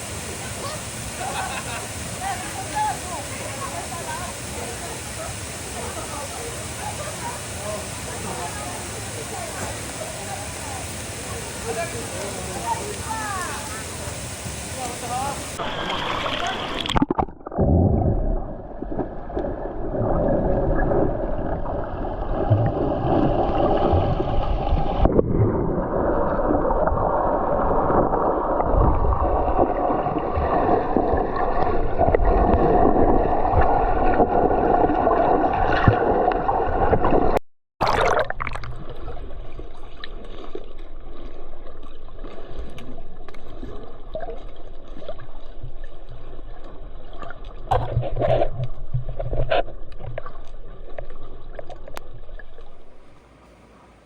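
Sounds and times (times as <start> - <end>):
stream water gurgling: 0.0 - 54.0.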